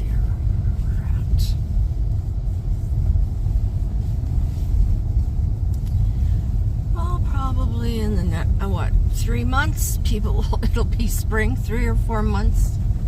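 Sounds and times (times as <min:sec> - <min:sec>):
vehicle engine and tyres rumble: 0:00.0 - 0:13.0.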